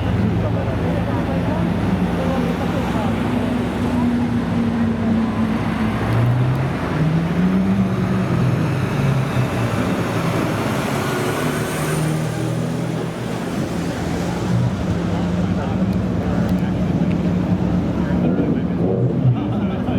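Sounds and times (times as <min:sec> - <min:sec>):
car engines at low revs: 0:00.0 - 0:19.9.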